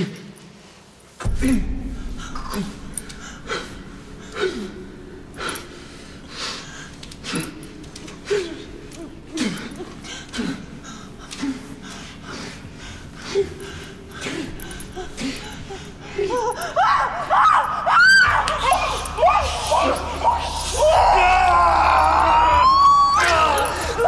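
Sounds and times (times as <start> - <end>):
steady low hum: 0.1 - 24.0.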